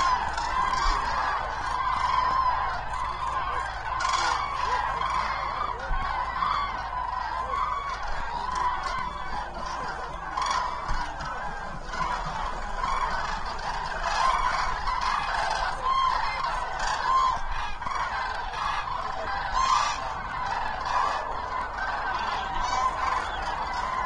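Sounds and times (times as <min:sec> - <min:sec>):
cranes trumpeting calls: 0:00.0 - 0:24.0.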